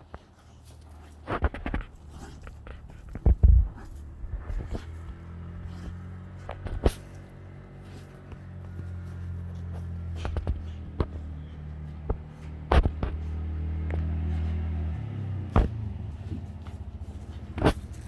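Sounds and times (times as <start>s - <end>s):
sharp knocks and scrapes: 0.0s - 18.0s
engine idling: 0.1s - 18.0s.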